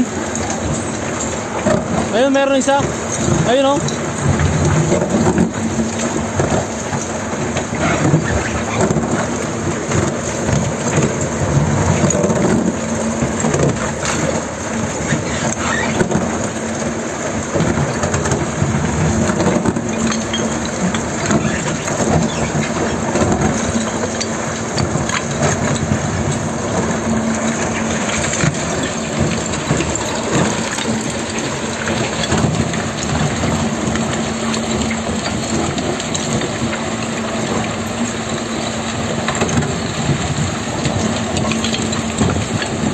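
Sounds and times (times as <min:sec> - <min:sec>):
constant mechanical hum: 0:00.0 - 0:42.9.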